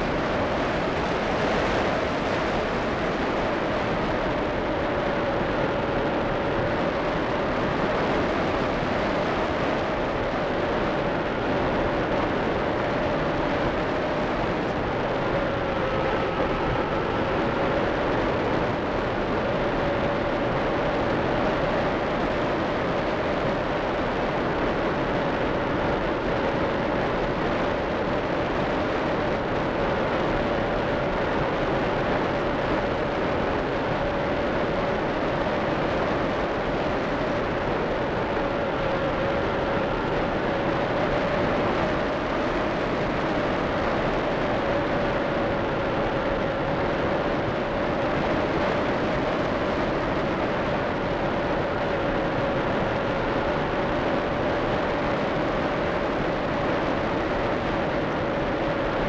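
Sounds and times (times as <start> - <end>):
mid-pitched hum: 0.0 - 59.0.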